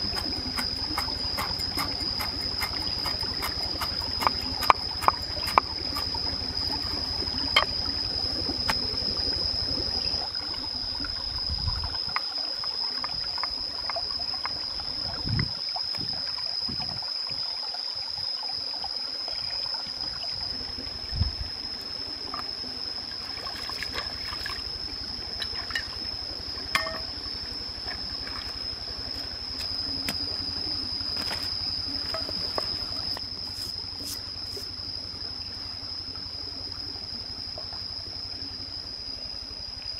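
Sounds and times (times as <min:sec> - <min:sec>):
stream running over rocks: 0:00.0 - 0:38.2
high-pitched insect drone: 0:00.0 - 0:39.9.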